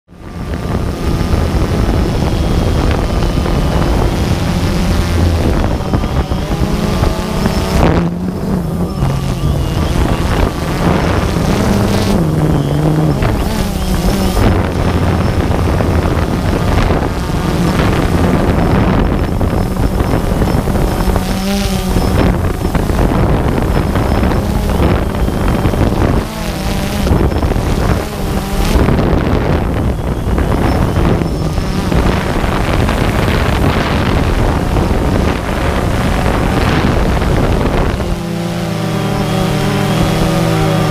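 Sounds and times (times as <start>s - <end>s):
drone motors and propellers: 0.1s - 40.9s
wind buffeting microphone: 0.1s - 40.9s.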